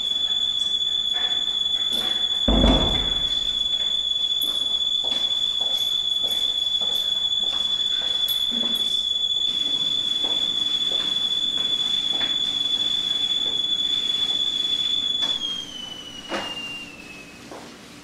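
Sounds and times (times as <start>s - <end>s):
high-pitched whistling tone: 0.0s - 17.7s.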